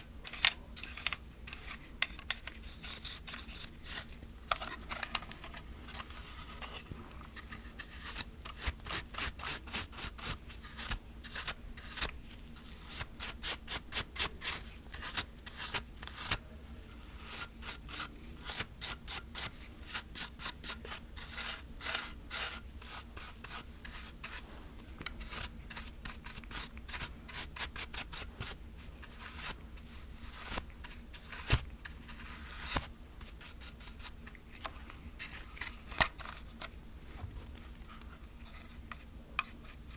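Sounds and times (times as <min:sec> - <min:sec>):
dry brush sweeping plastic: 0:00.0 - 0:37.3.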